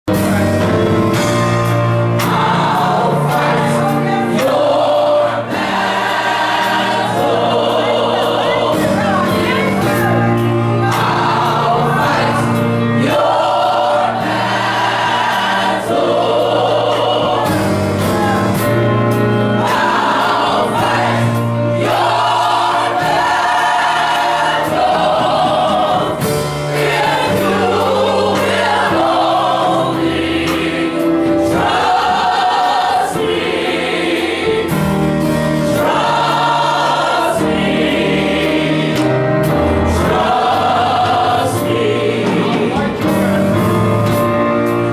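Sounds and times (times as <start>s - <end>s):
keyboard accompaniment: 0.0s - 44.9s
drum hits: 0.1s - 44.9s
gospel choir singing: 0.1s - 44.9s.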